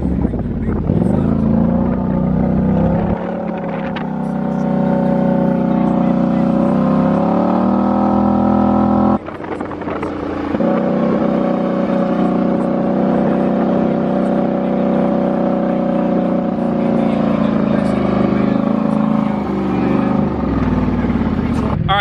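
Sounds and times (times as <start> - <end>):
rough rumbling noise: 0.0 - 22.0
vehicle engine running: 0.0 - 22.0.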